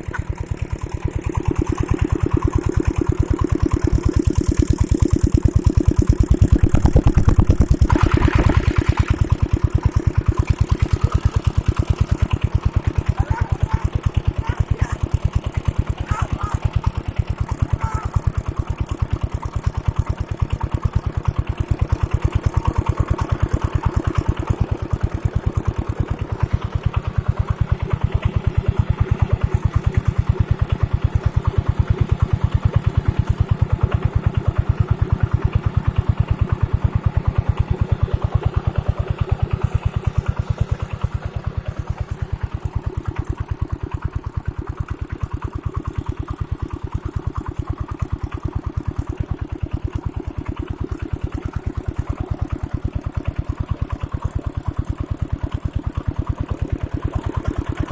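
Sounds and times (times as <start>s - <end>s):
water pump engine running: 0.0s - 57.9s.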